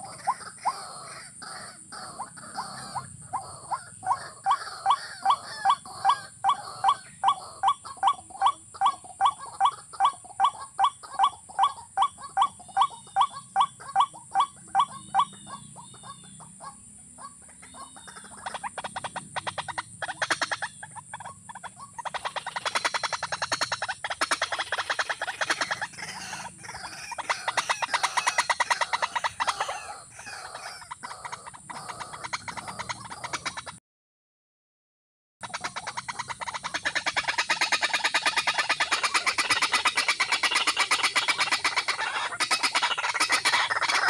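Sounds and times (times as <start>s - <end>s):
rail bird calling: 0.0s - 33.8s, 35.4s - 44.0s
rattling bird call: 0.0s - 33.8s, 35.4s - 44.0s.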